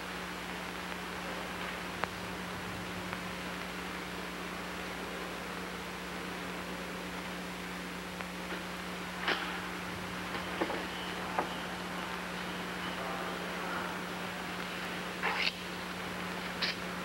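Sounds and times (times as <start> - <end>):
film soundtrack hum and hiss: 0.0 - 17.0.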